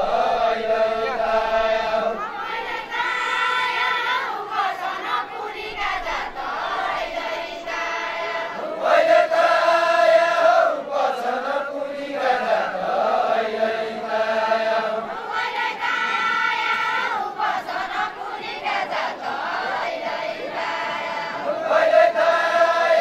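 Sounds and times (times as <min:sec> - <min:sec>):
group singing folk song in unison: 0:00.0 - 0:23.0.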